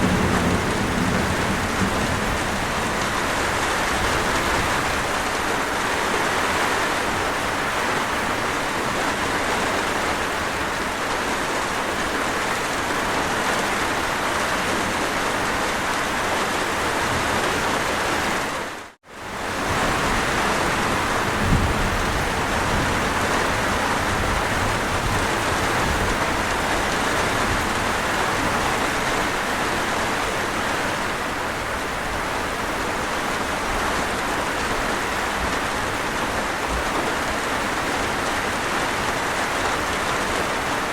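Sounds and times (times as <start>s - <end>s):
dense rainfall: 0.0s - 40.9s.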